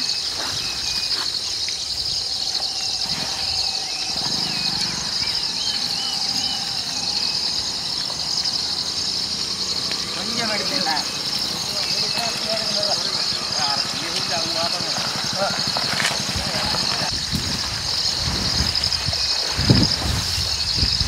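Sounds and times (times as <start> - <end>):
crickets trilling: 0.0 - 21.0
faint short insect chirps: 0.0 - 21.0.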